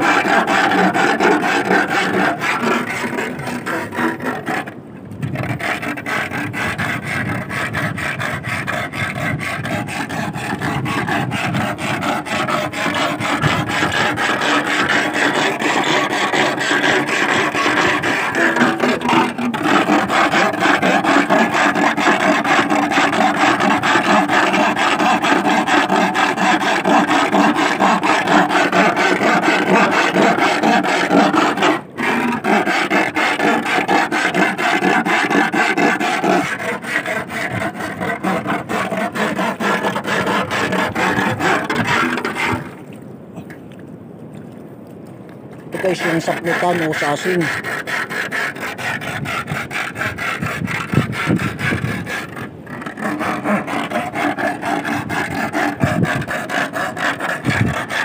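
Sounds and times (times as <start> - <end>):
iron rod rasping: 0.0 - 42.8, 45.7 - 58.0.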